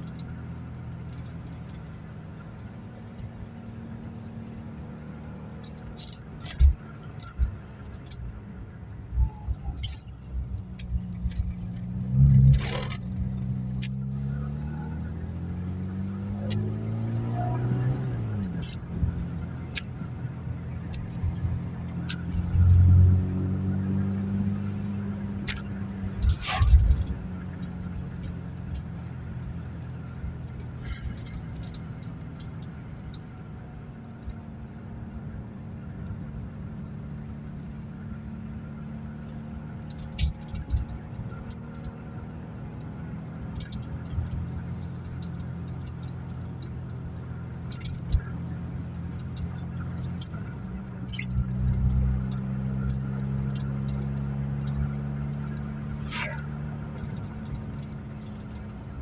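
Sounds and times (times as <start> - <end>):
car engine drone: 0.0 - 59.0.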